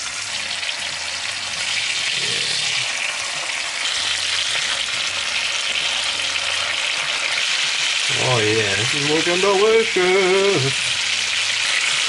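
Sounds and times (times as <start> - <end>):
steaks sizzling in hot oil: 0.0 - 12.0.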